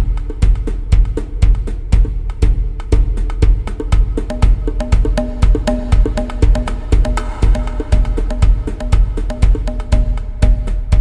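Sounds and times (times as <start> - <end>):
tribal drums rhythm: 0.0 - 11.0.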